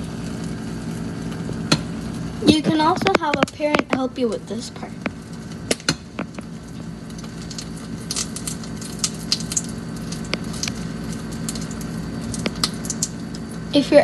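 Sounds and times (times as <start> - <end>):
egg frying in hot oil: 0.0 - 14.0
steady low hum: 0.0 - 14.0
oil spitting pops and crackles: 1.4 - 13.6.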